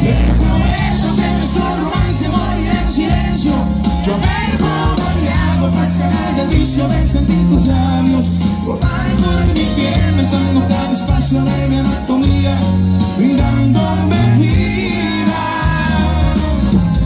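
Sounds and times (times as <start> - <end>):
bass line: 0.0 - 17.0
live band music: 0.0 - 17.0.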